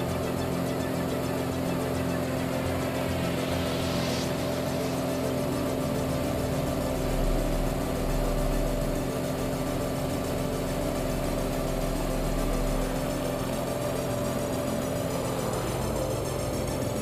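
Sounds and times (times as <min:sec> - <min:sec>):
plane engine and propeller droning: 0:00.0 - 0:17.0.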